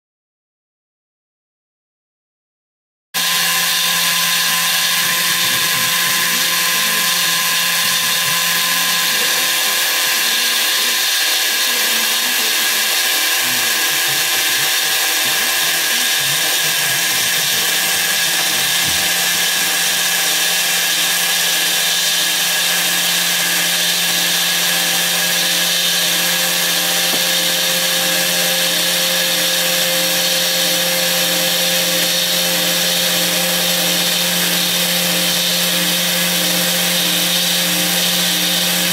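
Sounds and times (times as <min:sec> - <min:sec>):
router spindle whining: 0:03.2 - 0:38.9.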